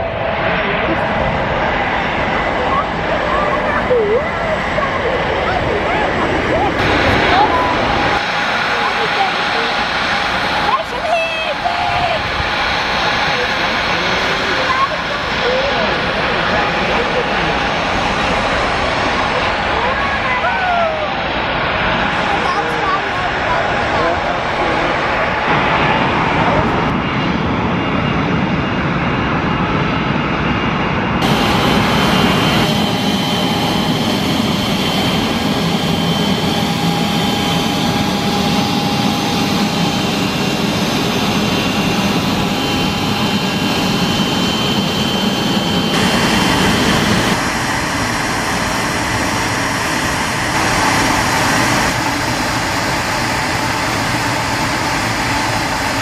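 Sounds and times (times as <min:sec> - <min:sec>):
jet engines whining and rumbling: 0:00.0 - 0:56.0.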